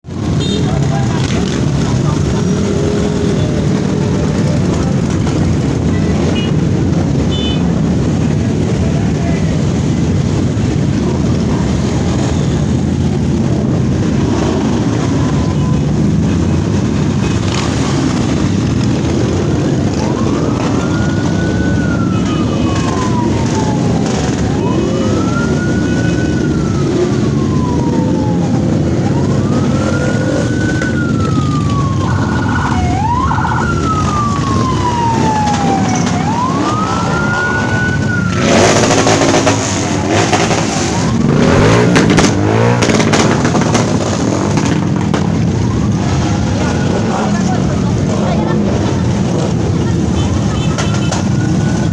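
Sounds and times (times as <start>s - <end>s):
rumble of vehicle engines: 0.0s - 51.9s
siren wailing: 0.2s - 51.9s.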